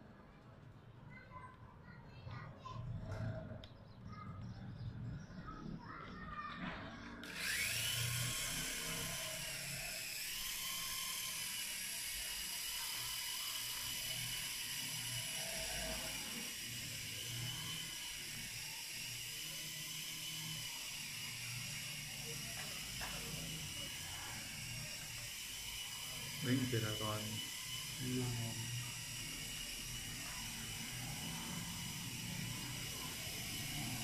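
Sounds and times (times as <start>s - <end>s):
toy helicopter motor whine: 5.6s - 34.0s.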